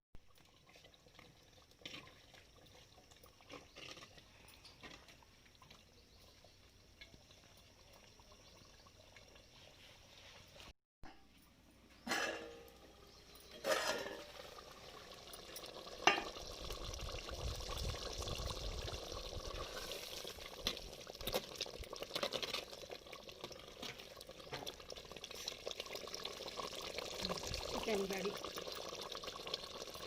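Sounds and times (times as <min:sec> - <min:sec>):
curry sizzling and bubbling in pot: 0:00.2 - 0:10.8, 0:11.8 - 0:30.0.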